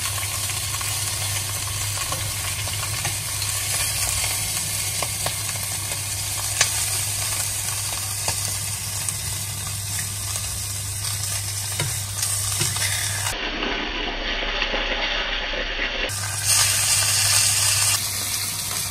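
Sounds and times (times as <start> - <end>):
food sizzling in a frying pan: 0.0 - 18.9.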